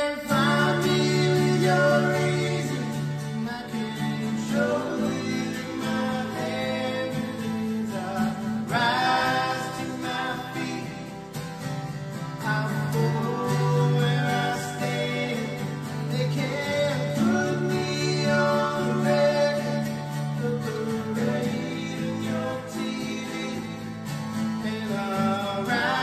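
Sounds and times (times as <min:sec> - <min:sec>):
acoustic guitars strumming chords: 0:00.0 - 0:26.0
men singing: 0:00.0 - 0:26.0.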